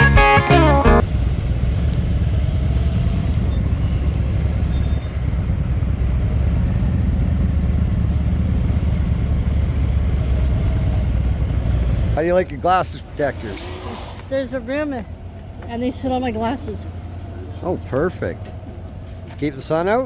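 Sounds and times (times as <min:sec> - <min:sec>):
motorcycle engine drone: 0:00.9 - 0:20.0.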